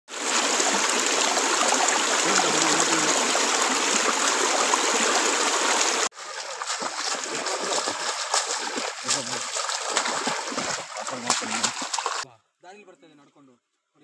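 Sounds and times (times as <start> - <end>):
stream rushing over boulders: 0.1 - 12.2
feet wading through shallow water: 0.3 - 12.2.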